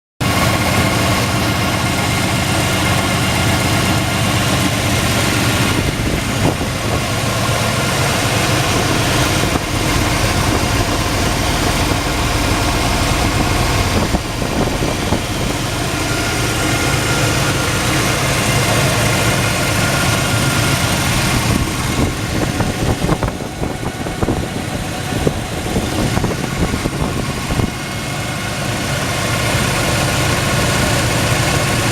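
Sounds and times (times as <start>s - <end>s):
truck engine idling: 0.2s - 31.9s.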